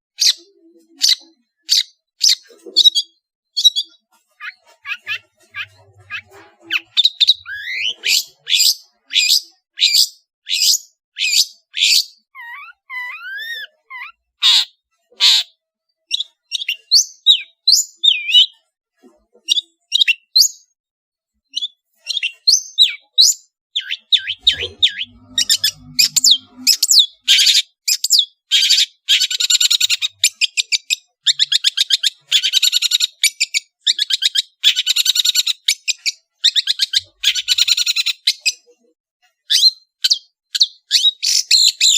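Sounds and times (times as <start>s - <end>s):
bird singing and chattering: 0.2s - 18.6s, 19.3s - 20.8s, 21.5s - 38.7s, 39.4s - 41.9s.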